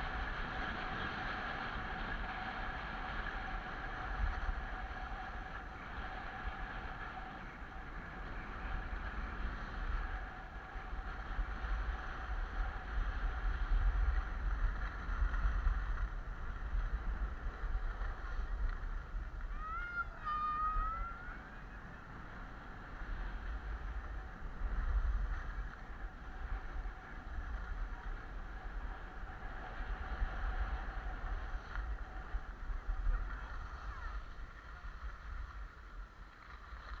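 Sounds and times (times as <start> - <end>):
skis sliding on snow: 0.0 - 37.0
wind buffeting microphone: 0.0 - 37.0.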